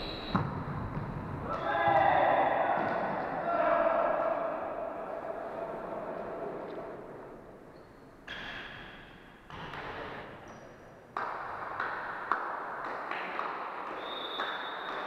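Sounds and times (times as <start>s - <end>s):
sports hall noise: 0.0s - 15.0s.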